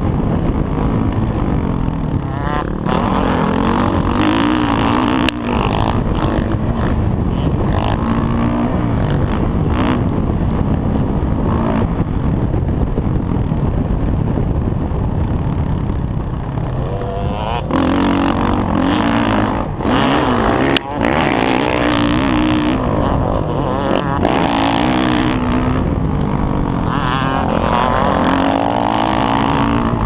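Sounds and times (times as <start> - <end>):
dirt bike engine revving: 0.0 - 12.5, 16.4 - 30.0.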